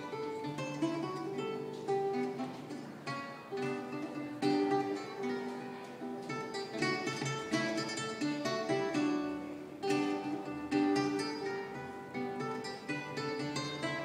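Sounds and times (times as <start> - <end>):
acoustic guitar plucked melody: 0.0 - 14.0.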